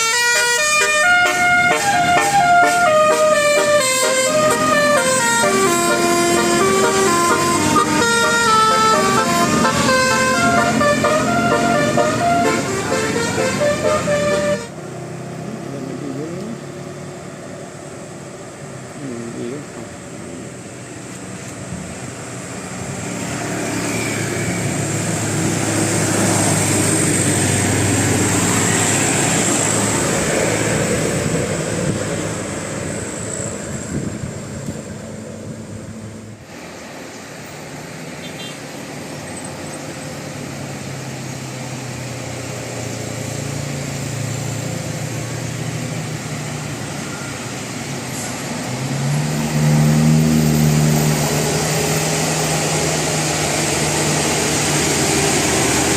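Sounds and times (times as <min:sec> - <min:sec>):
bus engine low hum: 0:00.0 - 0:55.9
bus passing by: 0:00.0 - 0:55.9.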